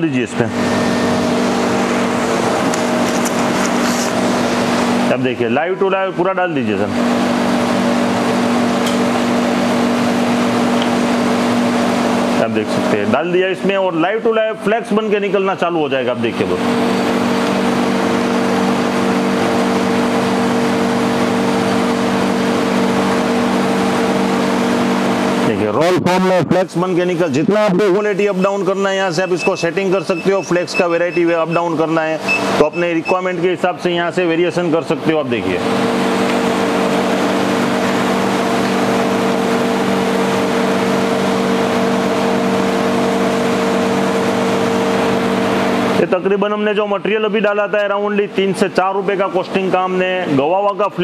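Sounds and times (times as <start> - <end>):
ice machine humming: 0.2 - 14.2, 14.8 - 25.7, 26.9 - 46.1.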